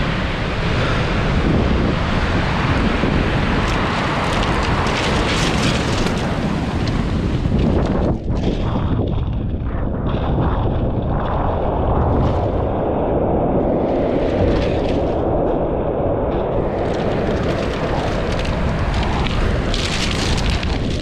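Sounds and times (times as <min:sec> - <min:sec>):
rough sea surf: 0:00.0 - 0:21.0
wind rumble on microphone: 0:00.0 - 0:21.0.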